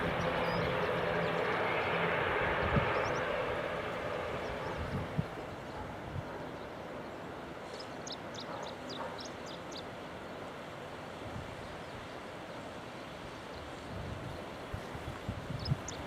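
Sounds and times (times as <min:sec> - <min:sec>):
distant airport noise: 0:00.0 - 0:16.0.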